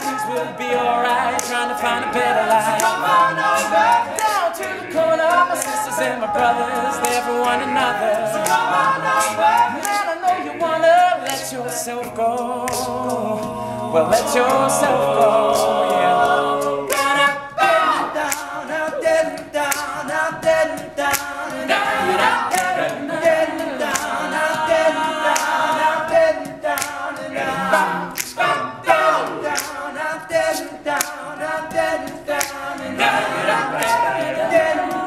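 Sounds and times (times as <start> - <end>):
male a cappella group singing: 0.0 - 35.0
sharp percussive beats: 0.0 - 35.0.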